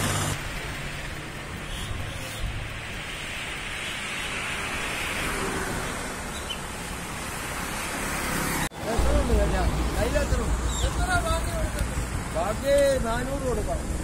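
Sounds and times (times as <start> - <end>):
steady traffic hiss: 0.0 - 14.0
vehicle passing with tyre hiss: 0.0 - 14.0.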